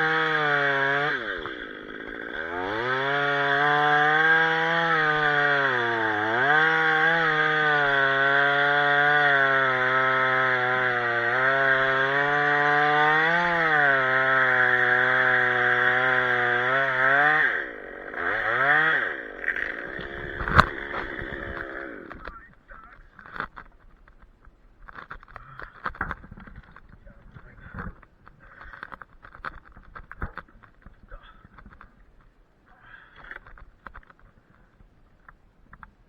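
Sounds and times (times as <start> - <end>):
chainsaw cutting wood: 0.0 - 22.4, 23.0 - 23.9, 24.8 - 27.0, 27.8 - 31.9.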